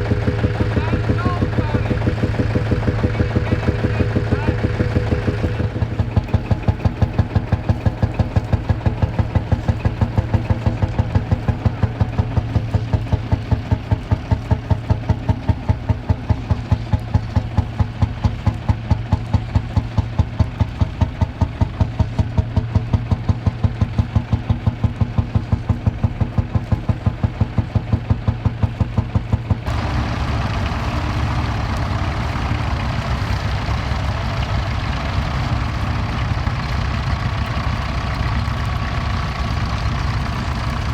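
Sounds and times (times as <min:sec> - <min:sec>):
steady engine running: 0:00.0 - 0:40.9
tractor engine thudding: 0:00.0 - 0:40.9.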